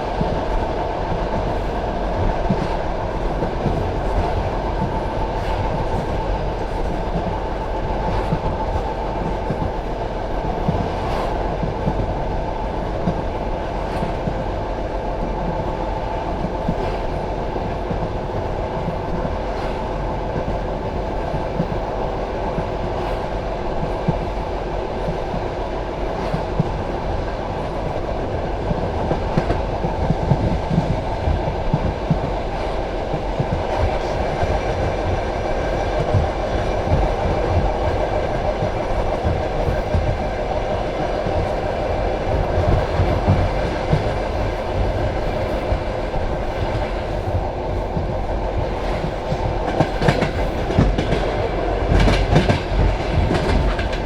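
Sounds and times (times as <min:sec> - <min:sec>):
rail joint clicks: 0:00.0 - 0:54.0
train wheels rumbling on rails: 0:00.0 - 0:54.0.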